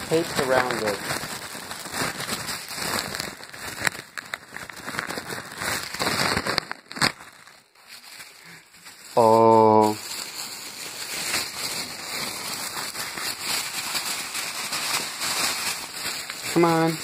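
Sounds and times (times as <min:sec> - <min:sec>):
taped package crinkling: 0:00.0 - 0:17.0.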